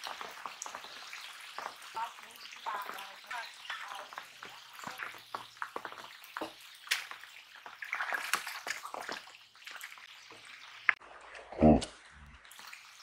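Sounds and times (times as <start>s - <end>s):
rain pattering on water: 0.0s - 11.0s
fish splashing at surface: 0.0s - 11.1s.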